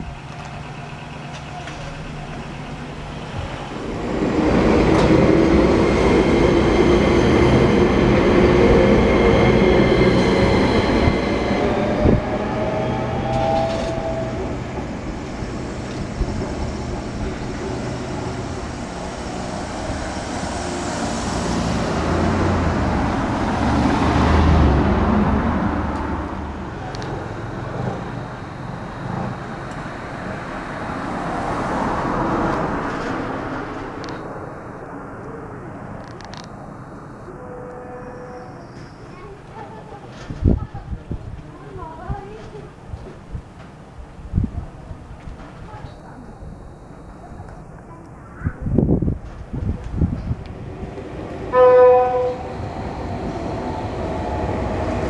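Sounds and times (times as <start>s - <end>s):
train wheel noise: 0.0s - 47.9s.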